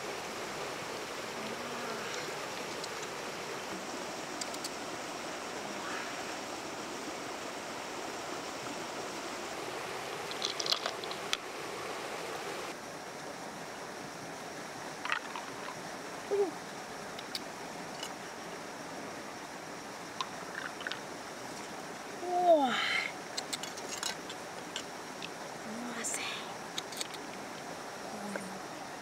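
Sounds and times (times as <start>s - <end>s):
water rushing: 0.0s - 29.0s.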